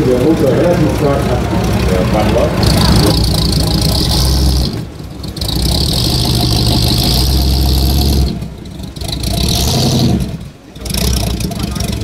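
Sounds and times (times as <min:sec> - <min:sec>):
car engine revving loud: 0:00.0 - 0:12.0.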